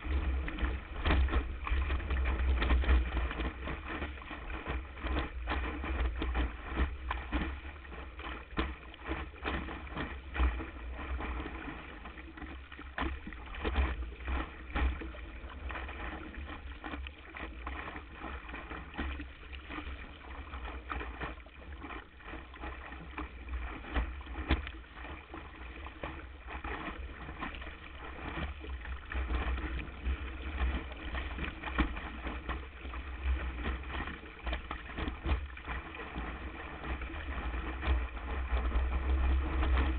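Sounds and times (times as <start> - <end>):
water rushing against a board: 0.0 - 39.9.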